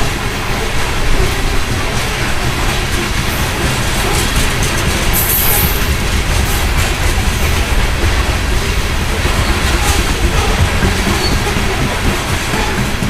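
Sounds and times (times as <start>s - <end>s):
rail clicks: 0.0s - 13.0s
train wheels rumbling on rails: 0.0s - 13.0s.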